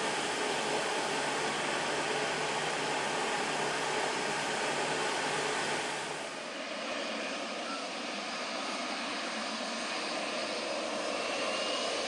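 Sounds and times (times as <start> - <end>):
jet engines rushing hiss: 0.0 - 12.0.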